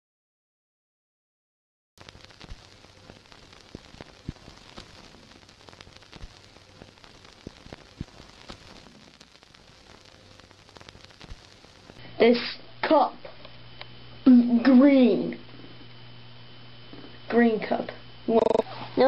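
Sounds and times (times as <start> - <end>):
crackling static: 2.0 - 19.0
faint hum: 2.0 - 19.0.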